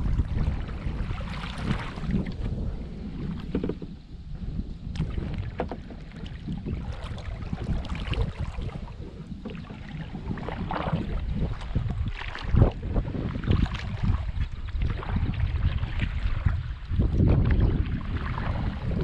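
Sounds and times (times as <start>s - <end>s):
water splashing around kayak: 0.0s - 19.0s
wind on microphone: 0.0s - 19.0s.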